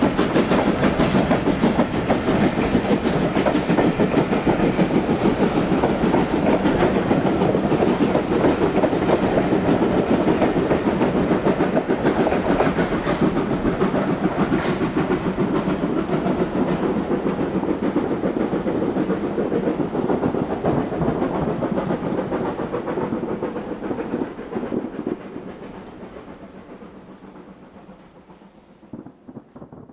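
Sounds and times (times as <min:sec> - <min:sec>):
steam train running past: 0:00.0 - 0:29.9.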